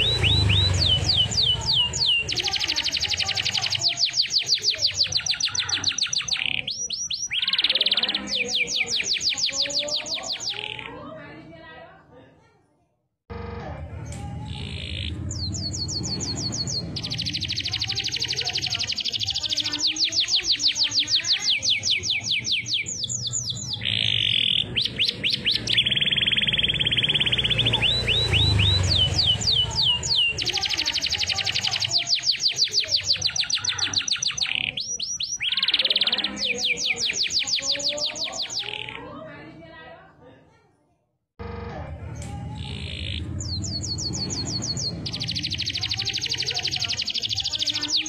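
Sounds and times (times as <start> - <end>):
canary singing trills: 0.0 - 11.2, 14.1 - 39.3, 42.2 - 48.0.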